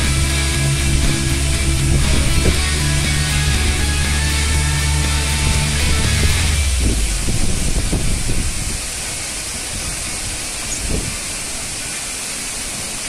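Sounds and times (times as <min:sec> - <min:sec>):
low rumbles: 0:00.0 - 0:11.4
waterfall rushing: 0:00.0 - 0:13.0.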